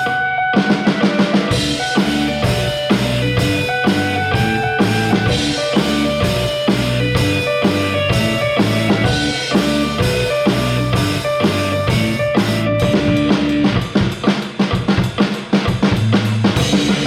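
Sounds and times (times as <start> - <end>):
rock drum kit with guitar and bass: 0.0 - 17.0.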